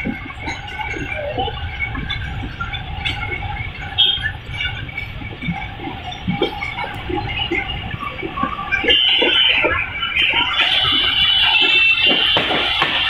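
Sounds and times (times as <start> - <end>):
train rumble and hum: 0.0 - 13.0.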